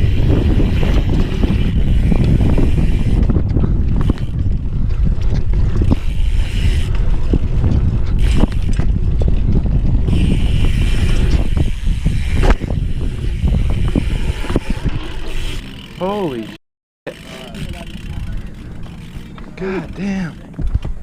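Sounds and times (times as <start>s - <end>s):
wind buffeting microphone: 0.0s - 15.8s, 17.6s - 21.0s
bike clicks and rattles: 0.0s - 21.0s.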